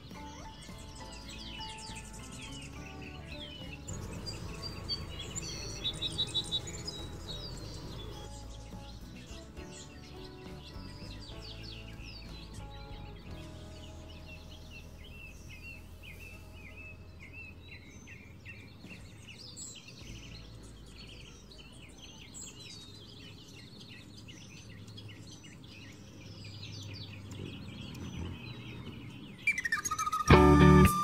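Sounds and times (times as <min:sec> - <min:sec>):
small songbirds chirping: 0:00.0 - 0:31.0.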